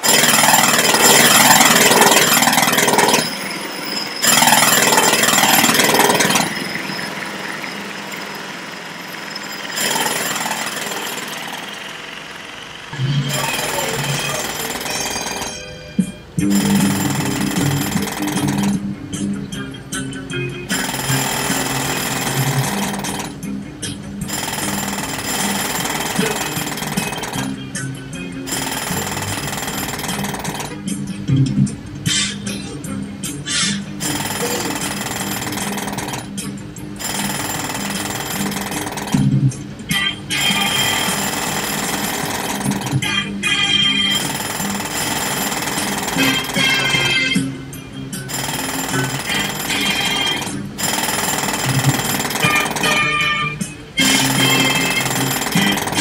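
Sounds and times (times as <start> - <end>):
jackhammer rattling: 0.0 - 15.8, 16.4 - 19.2, 20.7 - 31.0, 33.9 - 56.0.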